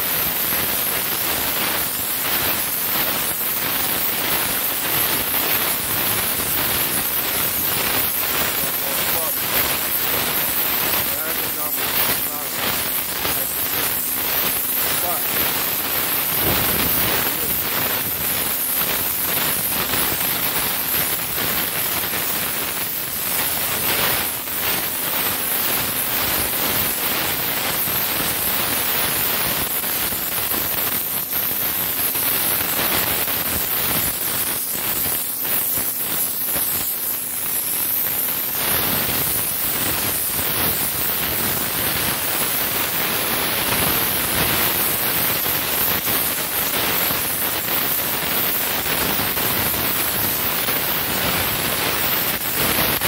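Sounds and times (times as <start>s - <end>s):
pressure washer spraying concrete: 0.0s - 53.0s.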